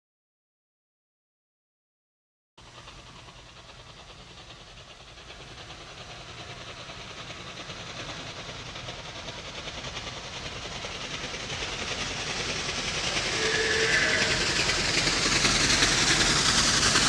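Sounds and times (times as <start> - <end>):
steam train chugging: 2.6 - 17.0.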